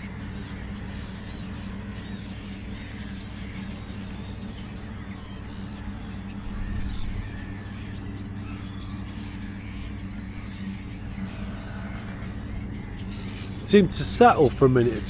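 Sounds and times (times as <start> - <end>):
flock of birds calling: 0.0 - 15.0
steady low hum: 0.0 - 15.0.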